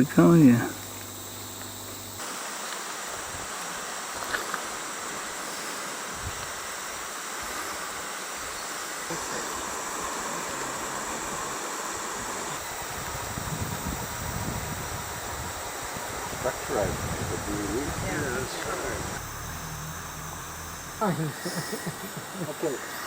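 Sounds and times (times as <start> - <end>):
rainforest ambience hiss: 0.0 - 23.0.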